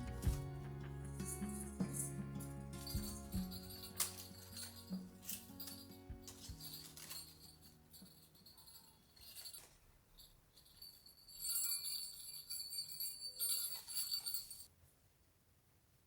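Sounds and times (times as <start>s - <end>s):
metallic jingling: 0.0s - 14.7s.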